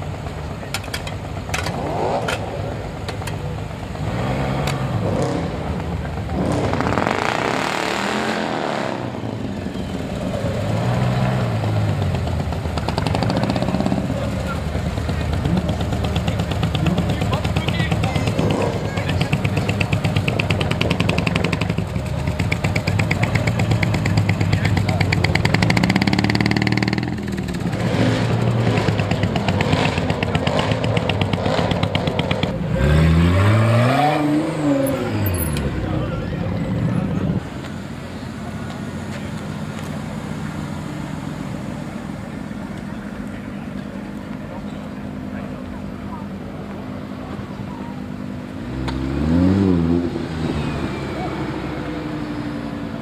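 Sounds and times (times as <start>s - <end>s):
car engine driving by: 0.0s - 53.0s.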